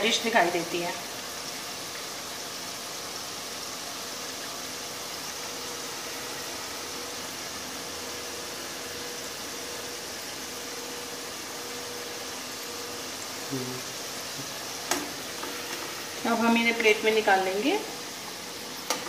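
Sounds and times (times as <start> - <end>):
fries sizzling in hot oil: 0.0 - 19.0.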